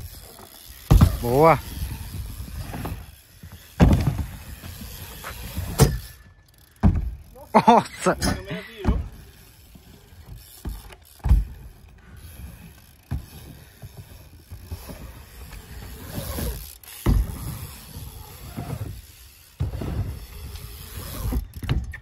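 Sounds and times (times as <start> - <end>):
wheels thudding on wood: 0.0 - 7.5, 8.2 - 22.0
bike tyres rolling on wooden ramp: 0.0 - 22.0.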